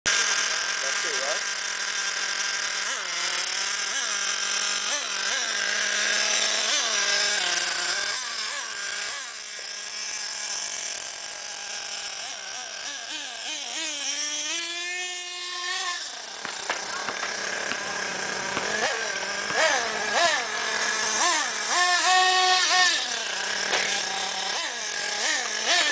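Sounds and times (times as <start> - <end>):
model car nitro engine revving: 0.1 - 25.9.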